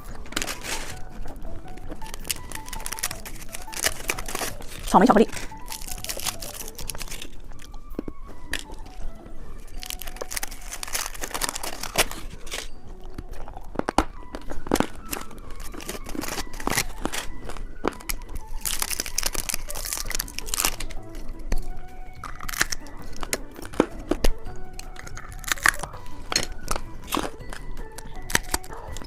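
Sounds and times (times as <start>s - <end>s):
wrapper tearing: 0.0s - 9.0s, 9.6s - 12.7s, 13.3s - 29.0s
plastic wrapper crinkling: 0.0s - 29.0s.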